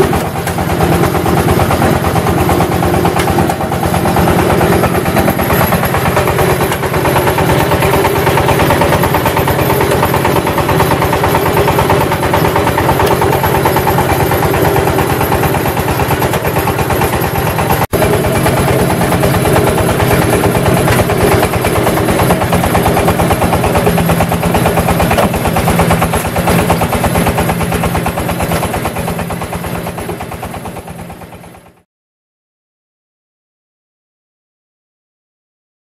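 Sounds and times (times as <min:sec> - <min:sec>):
brick press machine droning: 0:00.0 - 0:31.8.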